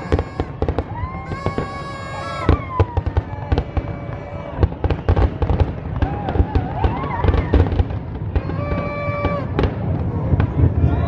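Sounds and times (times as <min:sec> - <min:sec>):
fireworks bangs and crackles: 0:00.0 - 0:11.0
fireworks whistling: 0:00.0 - 0:11.0.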